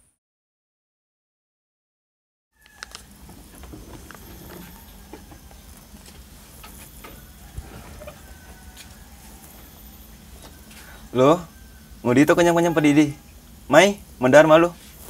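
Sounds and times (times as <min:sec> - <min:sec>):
low steady hum: 0:02.8 - 0:15.0.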